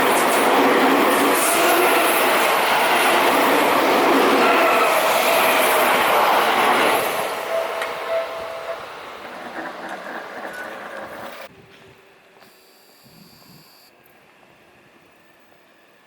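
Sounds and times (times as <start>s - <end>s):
electric train passing: 0.0s - 13.0s, 13.9s - 16.0s.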